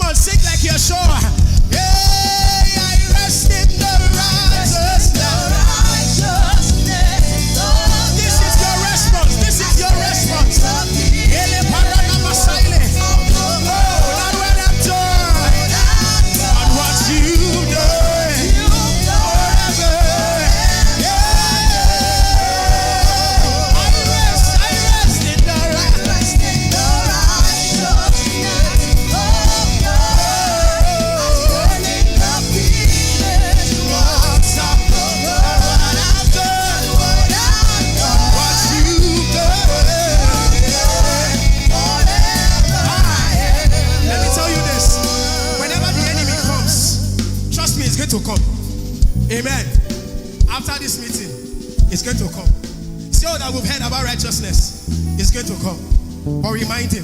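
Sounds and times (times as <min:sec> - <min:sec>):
voices singing: 0:00.0 - 0:48.4
quick drum beat: 0:00.0 - 0:53.4
band playing upbeat song: 0:00.0 - 0:57.0.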